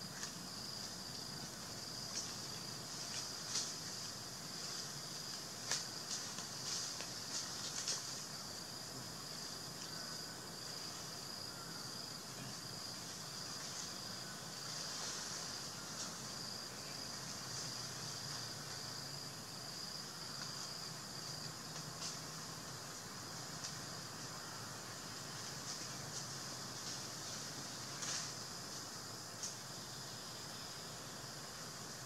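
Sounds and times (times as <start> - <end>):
insects droning in trees: 0.0 - 32.0.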